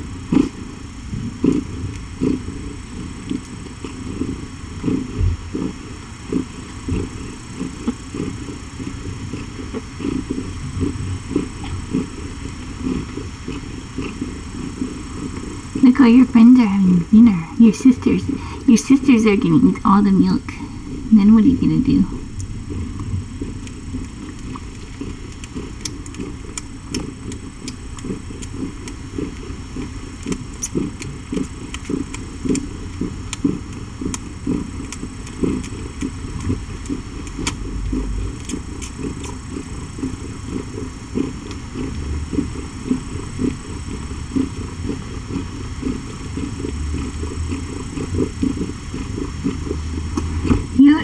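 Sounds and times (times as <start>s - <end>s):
cat purring: 0.0s - 51.0s.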